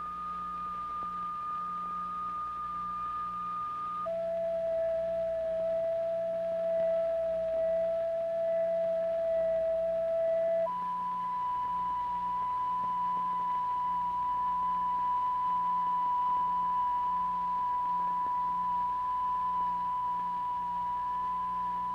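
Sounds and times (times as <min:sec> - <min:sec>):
faint low hum: 0:00.0 - 0:21.9
pure sine tone: 0:00.0 - 0:21.9.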